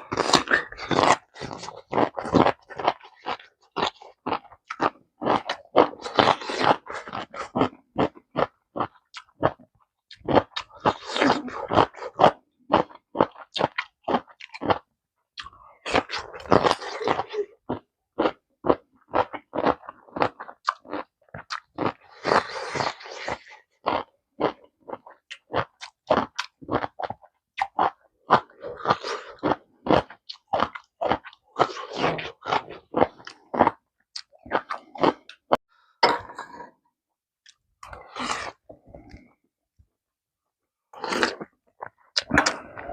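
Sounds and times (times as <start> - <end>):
person chewing wetly: 0.0 - 35.6, 41.0 - 42.9.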